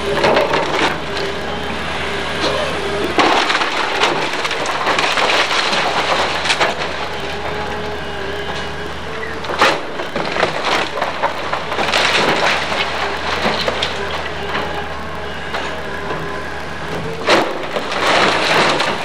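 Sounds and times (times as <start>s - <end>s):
excavator running: 0.0s - 19.0s
falling debris crashing: 0.0s - 19.0s
timber crackling and splintering: 0.0s - 19.0s.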